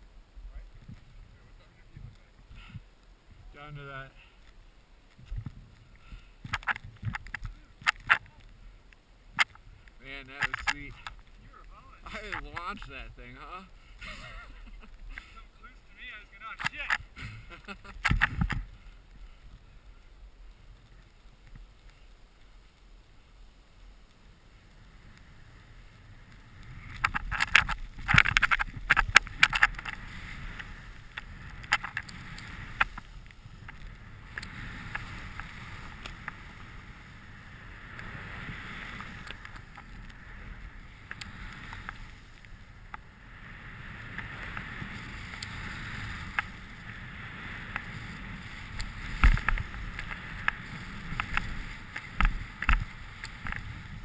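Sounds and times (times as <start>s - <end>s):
wind rumble on microphone: 0.0s - 15.2s, 15.8s - 54.0s
skis hissing through powder snow: 0.0s - 27.1s, 27.7s - 54.0s.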